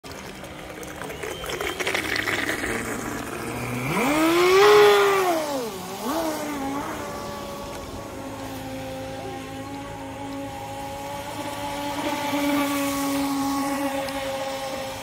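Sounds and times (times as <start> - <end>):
electric motor whining: 0.9 - 15.0.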